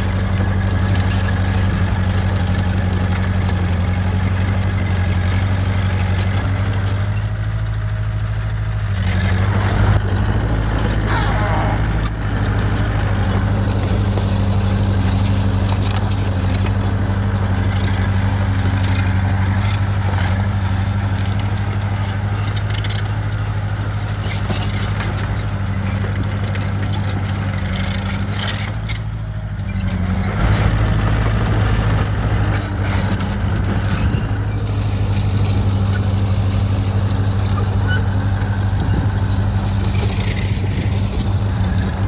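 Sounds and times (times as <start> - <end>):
bulldozer diesel engine: 0.0 - 42.0.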